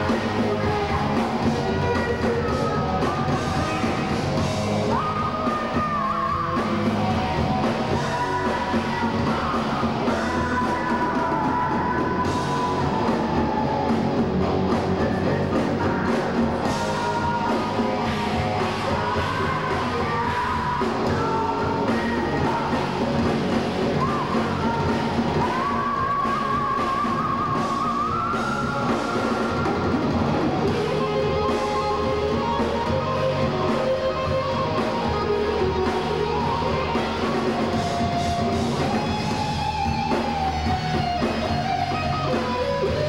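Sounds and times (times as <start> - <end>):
heavy metal band playing: 0.0 - 43.0
singer belting high notes: 0.0 - 43.0.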